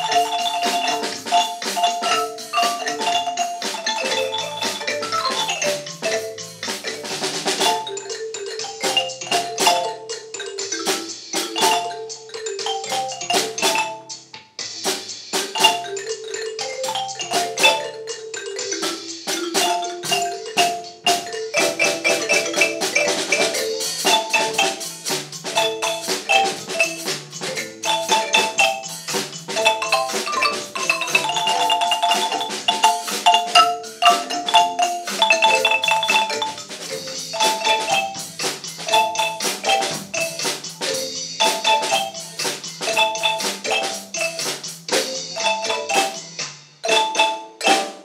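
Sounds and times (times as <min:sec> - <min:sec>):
xylophones played with mallets: 0:00.0 - 0:48.0.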